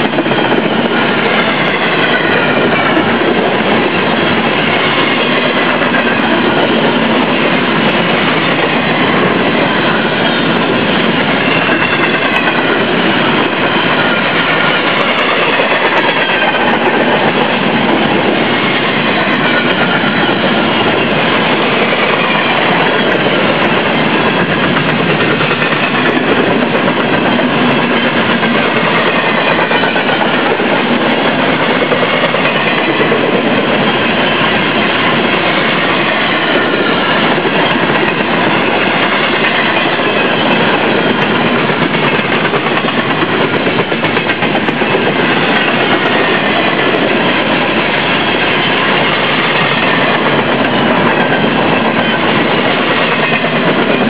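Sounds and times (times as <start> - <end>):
freight train wheels on rail: 0.0 - 54.0.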